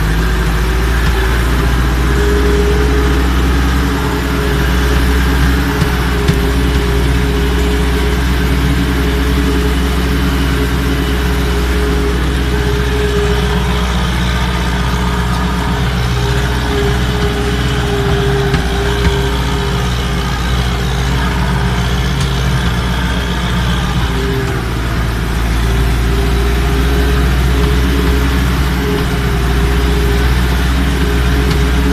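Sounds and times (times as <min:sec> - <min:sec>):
steady whine: 0:00.0 - 0:31.9
tractor diesel engine running: 0:00.0 - 0:31.9.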